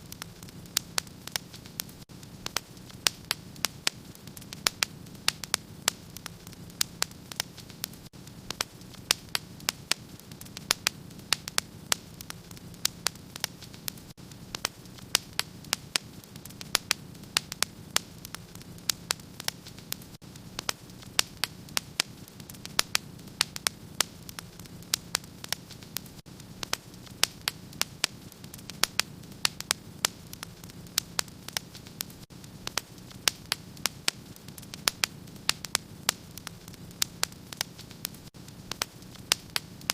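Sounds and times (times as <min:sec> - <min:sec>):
fire crackling and popping: 0:00.0 - 0:39.9
low rumble of burning fire: 0:00.0 - 0:39.9.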